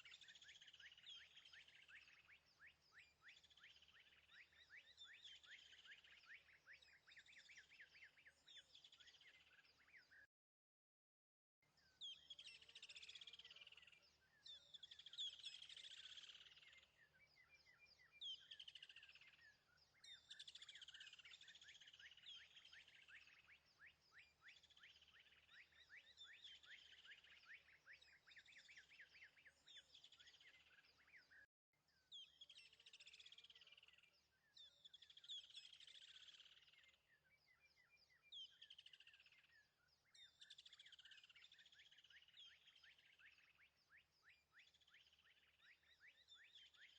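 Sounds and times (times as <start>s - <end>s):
faint birdsong: 0.0s - 10.3s, 11.6s - 46.9s.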